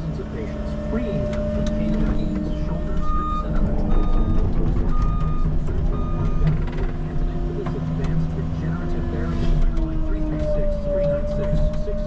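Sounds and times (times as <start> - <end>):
machine engine running: 0.0 - 12.0
reversing alarm beeping: 0.0 - 12.0.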